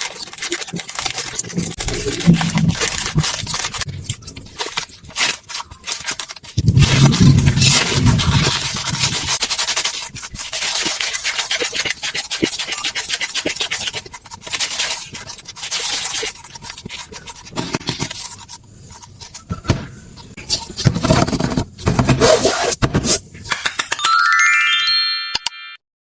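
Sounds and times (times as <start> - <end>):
rubbing and scraping on a surface: 0.0 - 23.8.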